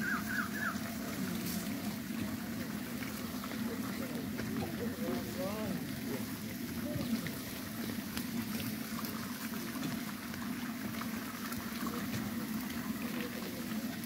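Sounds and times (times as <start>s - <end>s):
curry bubbling in pots: 0.0s - 14.0s
wood fire: 0.0s - 14.0s.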